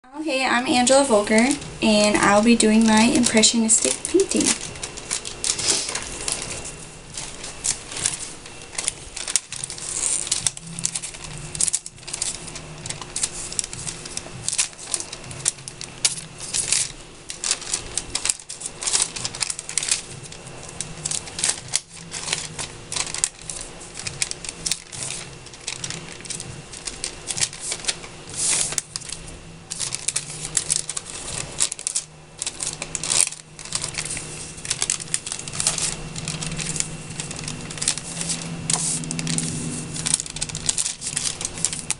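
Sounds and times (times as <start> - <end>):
faint steady hum: 0.0 - 41.9
paper crinkling and rustling: 0.5 - 41.9.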